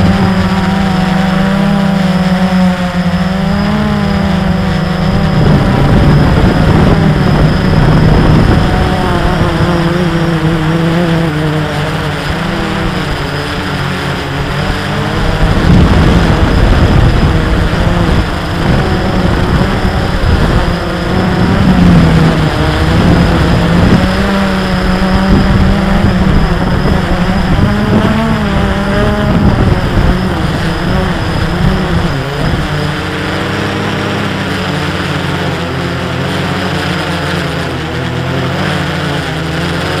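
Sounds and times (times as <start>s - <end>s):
drone propellers buzzing: 0.0s - 40.0s.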